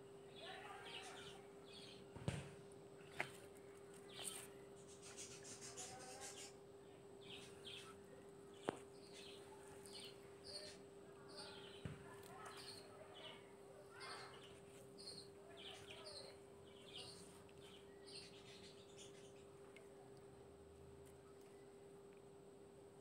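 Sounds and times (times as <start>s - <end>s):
faint birds chirping: 0.0s - 23.0s
steady low hum: 0.0s - 23.0s.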